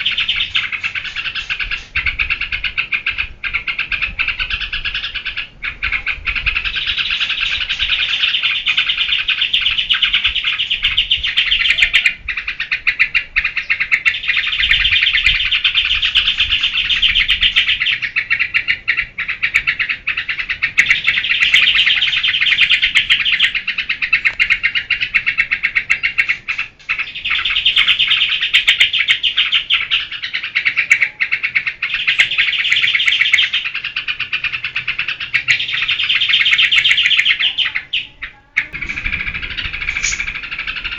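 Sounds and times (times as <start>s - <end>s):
bird singing chattering phrases: 0.0s - 40.9s.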